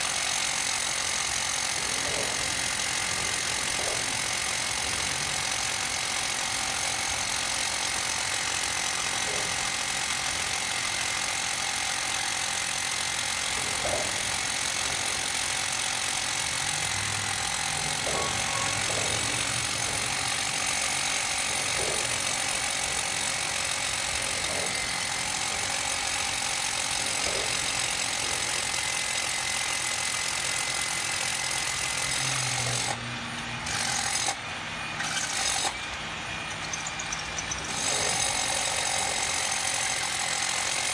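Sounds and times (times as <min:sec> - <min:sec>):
hammer drill boring into concrete: 0:00.0 - 0:40.9.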